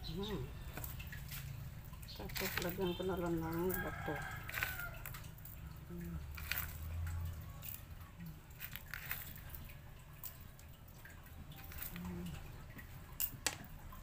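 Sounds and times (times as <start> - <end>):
soil crunching: 0.2 - 10.4, 11.5 - 13.5
pebbles clicking: 0.6 - 10.8, 11.4 - 14.0.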